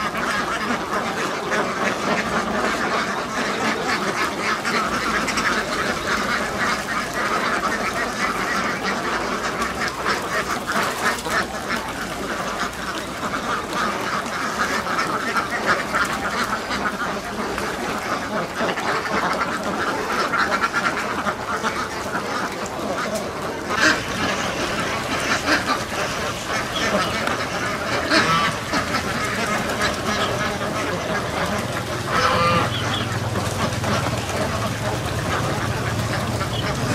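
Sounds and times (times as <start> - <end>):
ducks quacking: 0.0 - 36.9.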